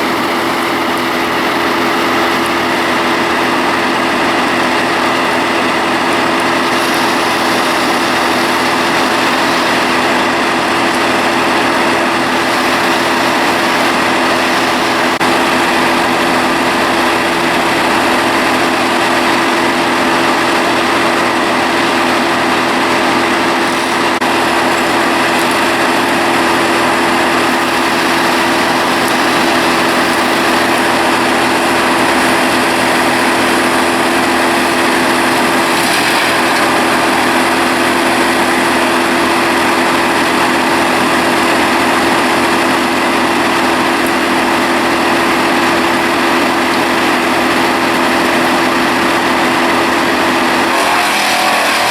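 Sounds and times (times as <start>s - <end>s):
small engine running steadily: 0.0s - 51.9s.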